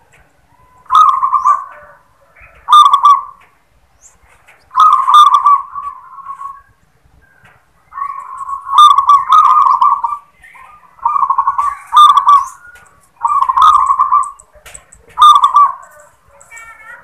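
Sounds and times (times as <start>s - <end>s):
dove cooing: 0.0s - 3.5s, 4.7s - 6.7s, 7.3s - 17.0s.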